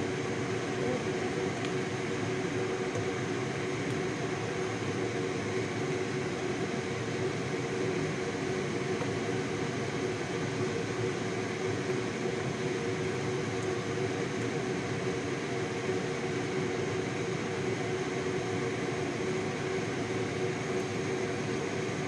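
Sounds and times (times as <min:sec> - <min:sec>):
electric fan hum: 0:00.0 - 0:22.0.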